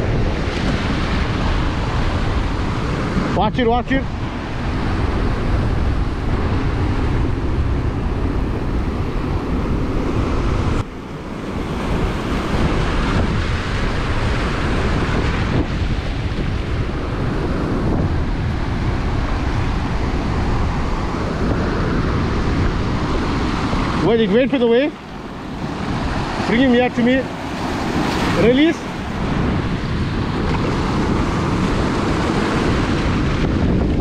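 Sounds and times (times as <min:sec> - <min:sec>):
breaking surf: 0:00.0 - 0:34.0
wind buffeting microphone: 0:00.0 - 0:34.0.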